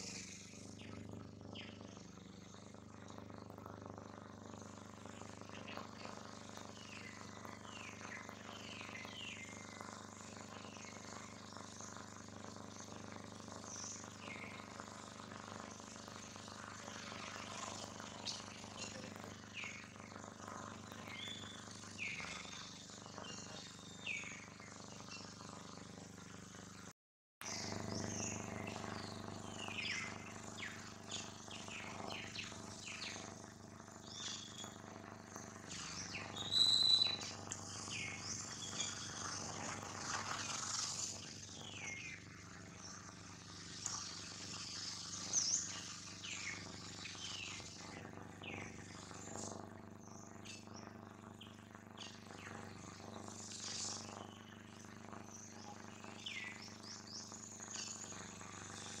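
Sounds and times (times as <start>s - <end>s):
wild birds chirping: 4.1s - 11.5s, 13.2s - 25.7s, 27.5s - 43.0s, 43.9s - 59.0s.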